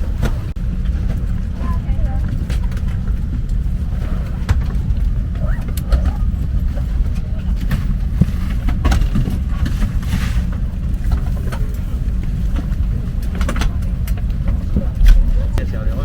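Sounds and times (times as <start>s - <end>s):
air-conditioning rumble: 0.0s - 16.0s.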